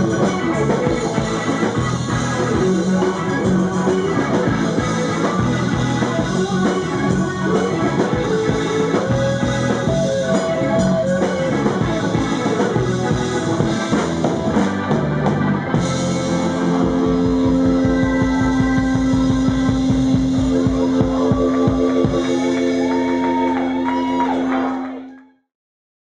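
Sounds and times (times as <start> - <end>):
drum kit: 0.0 - 24.6
electric guitar: 0.0 - 25.4.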